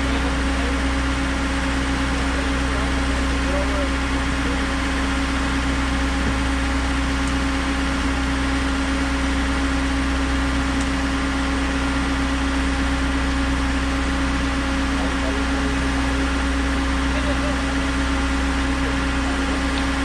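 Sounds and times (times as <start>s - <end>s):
pump engine humming: 0.0s - 20.0s.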